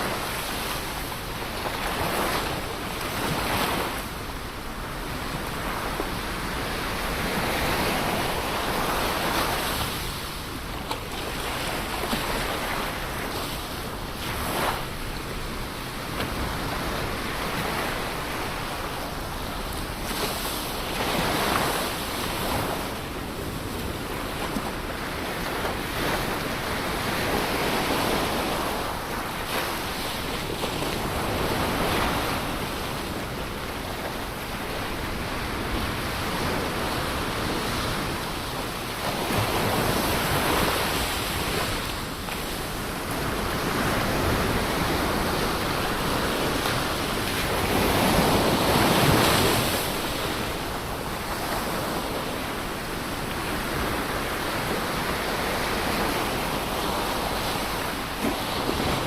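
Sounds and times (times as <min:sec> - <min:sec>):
ocean waves breaking on shore: 0:00.0 - 0:59.0
wind: 0:00.0 - 0:59.0.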